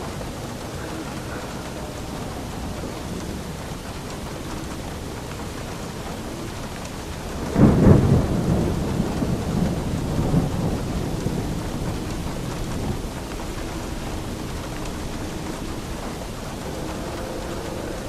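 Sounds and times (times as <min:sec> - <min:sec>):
steady rain: 0:00.0 - 0:18.0
thunder rumble: 0:00.0 - 0:18.0.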